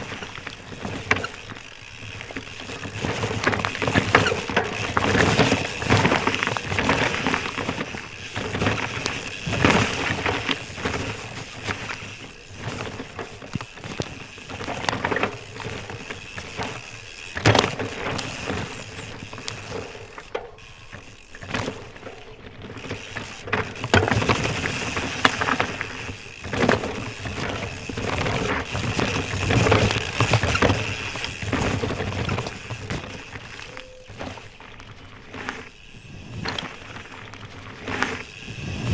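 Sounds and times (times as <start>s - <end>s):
bike knocking and rattling: 0.0s - 38.9s
bike tyres running over dirt: 0.0s - 38.9s.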